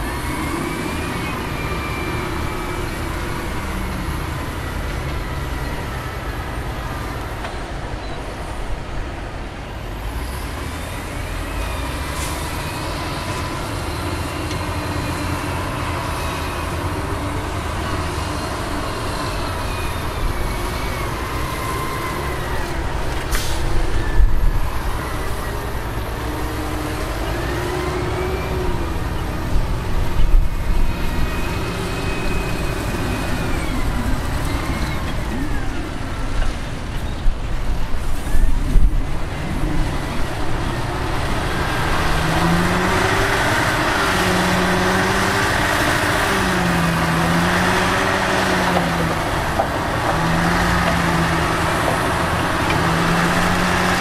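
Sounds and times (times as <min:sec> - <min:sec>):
heavy diesel engine rumble: 0:00.0 - 0:54.0.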